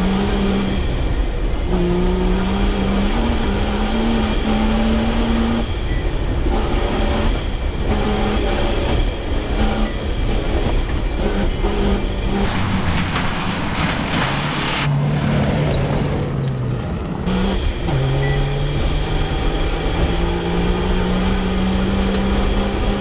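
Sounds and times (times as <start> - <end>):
engine running under load: 0.0 - 23.0.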